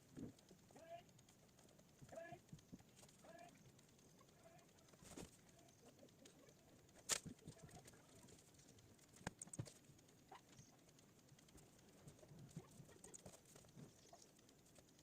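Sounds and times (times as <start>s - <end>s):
faint sharp clicks: 0.0s - 15.0s.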